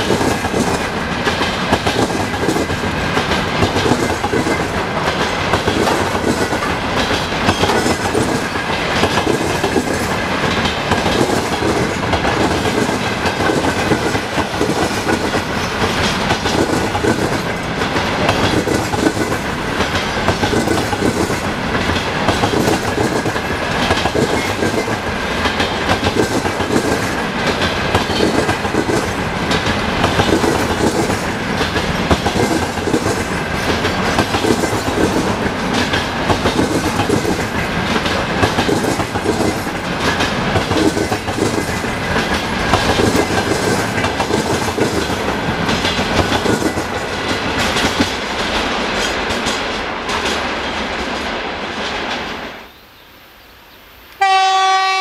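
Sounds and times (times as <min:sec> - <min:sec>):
train wheels clacking on rail joints: 0:00.0 - 0:52.4
train rumble: 0:00.0 - 0:52.7.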